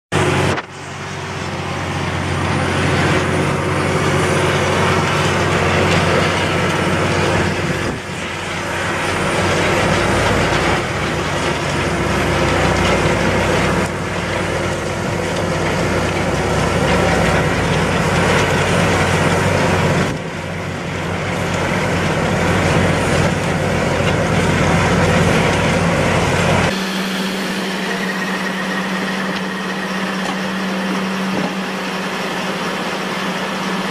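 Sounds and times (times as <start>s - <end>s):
steady mechanical hum: 0.1s - 33.9s
tractor diesel engine under load: 0.1s - 33.9s.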